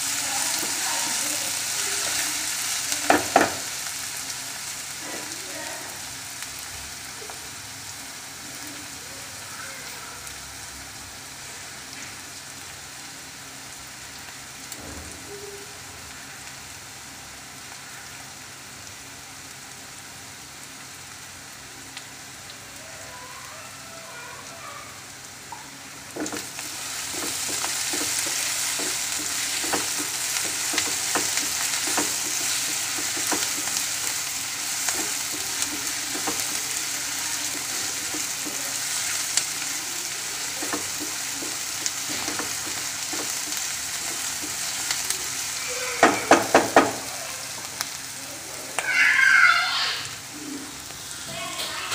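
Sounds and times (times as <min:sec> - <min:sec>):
onions sizzling in oil: 0:00.0 - 0:51.9.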